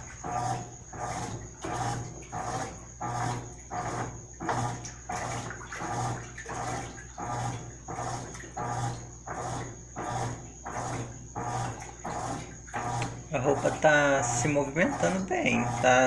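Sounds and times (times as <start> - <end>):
washing machine agitating: 0.0 - 16.0.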